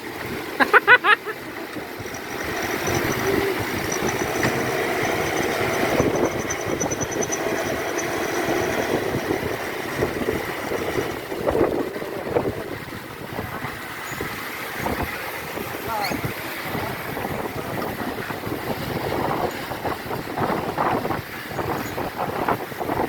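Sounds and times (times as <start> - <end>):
diesel truck engine straining: 0.0 - 23.0.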